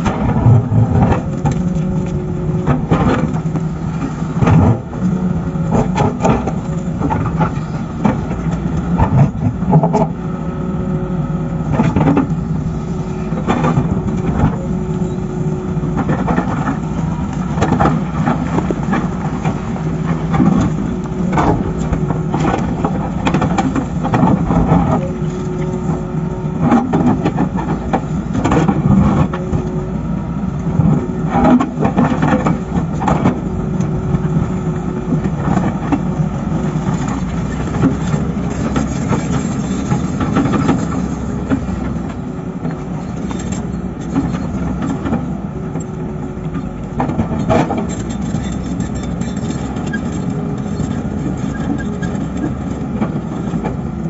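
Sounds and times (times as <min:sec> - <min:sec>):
excavator engine under load: 0:00.0 - 0:54.0.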